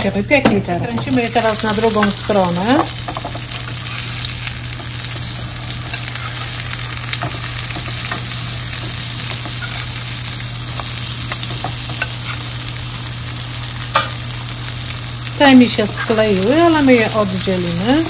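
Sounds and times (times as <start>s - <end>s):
pancakes sizzling in frying pan: 0.9s - 18.0s.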